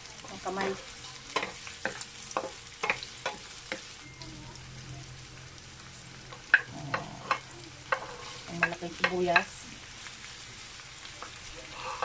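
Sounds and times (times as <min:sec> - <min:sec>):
garlic and onion sizzling in oil: 0:00.0 - 0:12.0.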